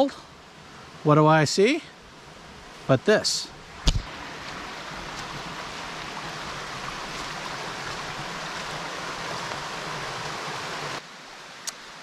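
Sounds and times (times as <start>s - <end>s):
waterfall cascading: 0.0s - 12.0s.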